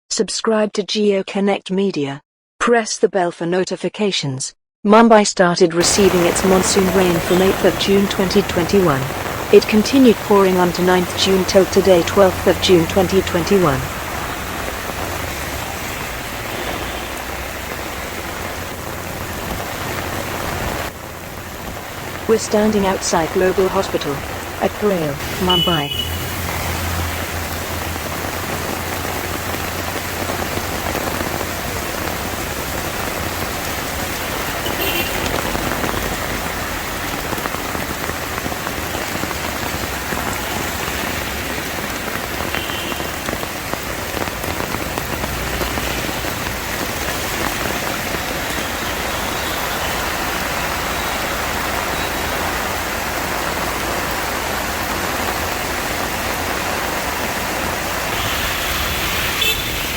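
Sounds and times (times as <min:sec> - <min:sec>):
heavy rain pouring: 0:05.8 - 0:59.9.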